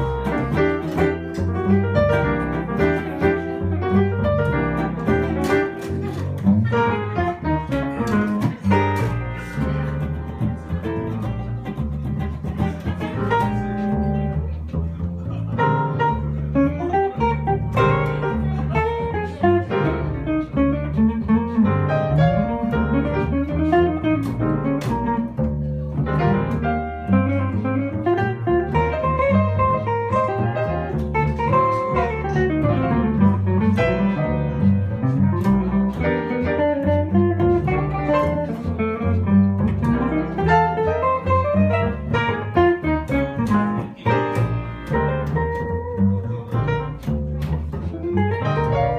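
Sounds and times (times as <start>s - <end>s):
piano: 0.0s - 48.9s
upright bass line: 0.0s - 48.9s.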